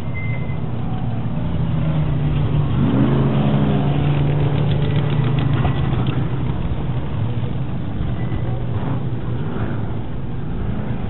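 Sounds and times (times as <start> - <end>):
race truck engines revving: 0.0 - 11.0.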